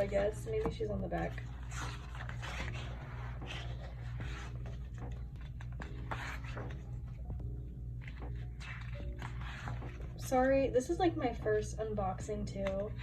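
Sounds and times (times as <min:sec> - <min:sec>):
paper and card rustling: 0:00.0 - 0:07.3, 0:08.0 - 0:10.6, 0:12.4 - 0:13.0
steady low hum: 0:00.0 - 0:13.0.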